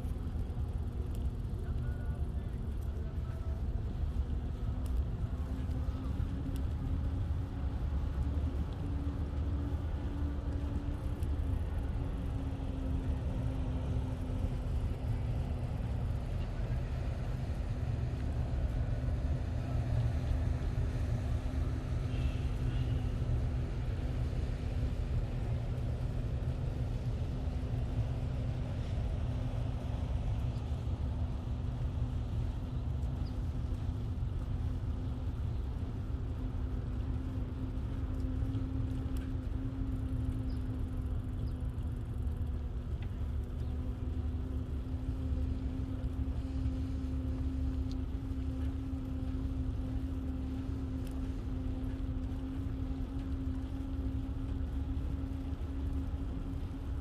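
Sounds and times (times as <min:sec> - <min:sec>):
bicycle rolling on pavement: 0:00.0 - 0:57.0
faint ticks: 0:00.0 - 0:57.0
steady hum: 0:00.0 - 0:57.0.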